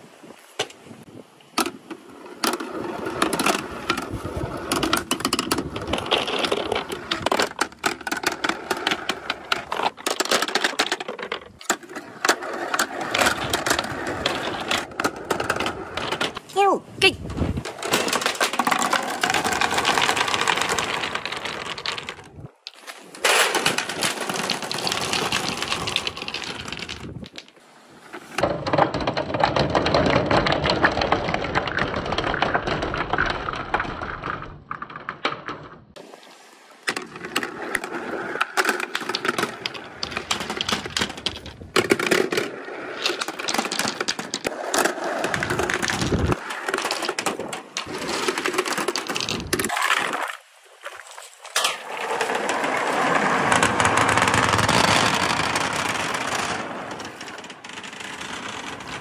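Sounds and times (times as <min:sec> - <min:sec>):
billiard balls clacking: 0:01.5 - 0:16.5, 0:17.4 - 0:36.0, 0:36.8 - 0:50.4, 0:51.0 - 0:59.0
balls rattling down chutes: 0:01.6 - 0:16.5, 0:17.6 - 0:27.6, 0:28.3 - 0:36.0, 0:36.9 - 0:50.3, 0:51.5 - 0:59.0.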